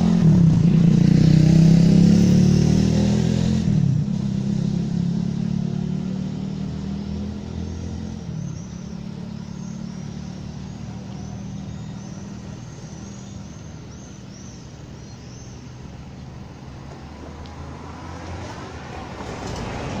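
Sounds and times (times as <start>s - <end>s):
vehicle engines passing: 0.0s - 20.0s.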